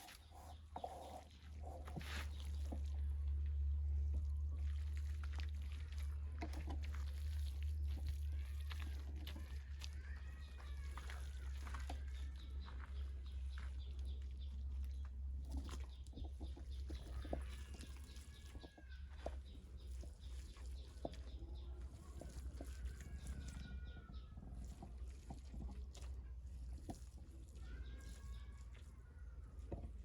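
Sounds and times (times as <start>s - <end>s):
mud squelching by hand: 0.0s - 30.0s.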